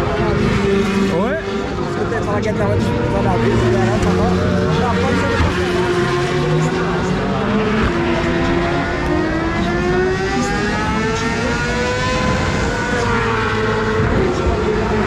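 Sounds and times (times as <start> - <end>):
superbike engines at race speed: 0.0 - 15.0.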